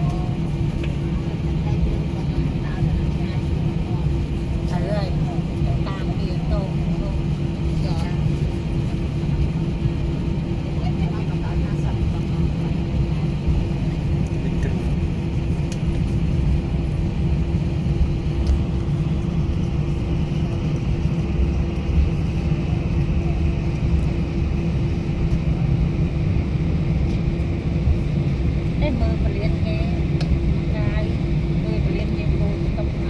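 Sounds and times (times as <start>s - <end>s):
aircraft cabin rumble: 0.0s - 33.0s
constant hum: 0.0s - 33.0s.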